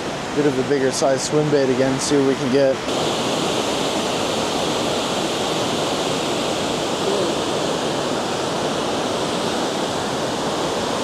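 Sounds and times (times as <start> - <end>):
water rushing over dam spillway: 0.0 - 11.0.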